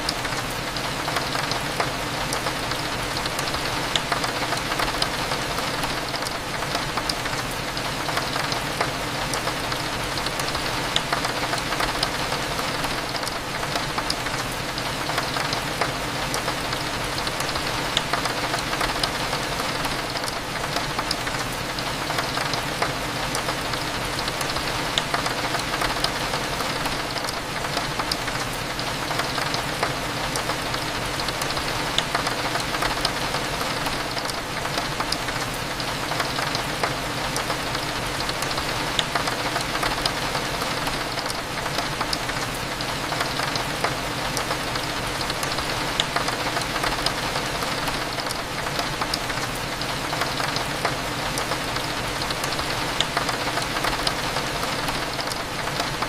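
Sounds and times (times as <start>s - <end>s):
rain on window glass: 0.0s - 56.0s.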